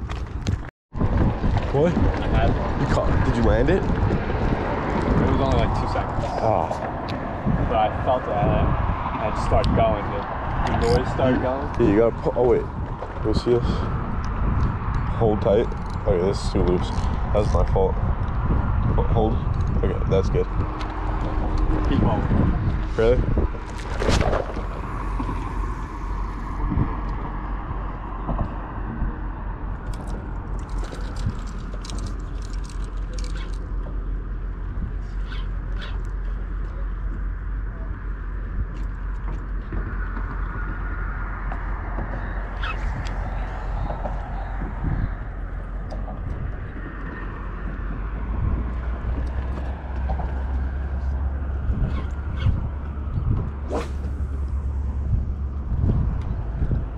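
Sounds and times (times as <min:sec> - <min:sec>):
low outdoor rumble: 0:00.0 - 0:56.9
wind buffeting microphone: 0:00.0 - 0:56.9.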